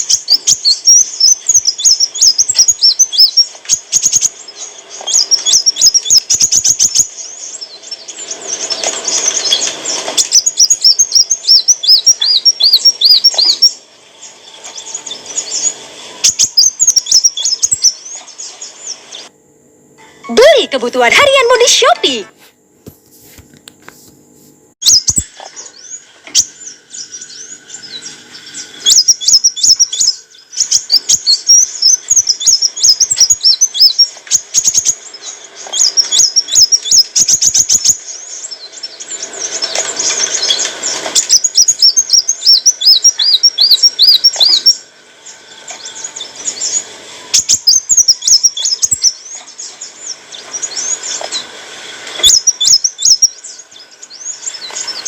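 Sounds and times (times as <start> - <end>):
bird twittering and trilling: 0.0 - 19.3, 24.8 - 55.0.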